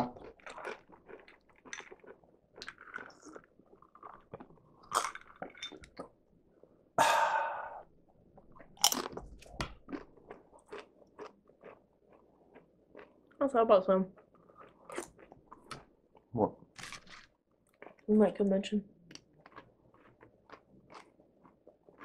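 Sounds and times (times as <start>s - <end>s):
chewing and crunching chips: 0.0s - 6.2s, 8.2s - 22.0s.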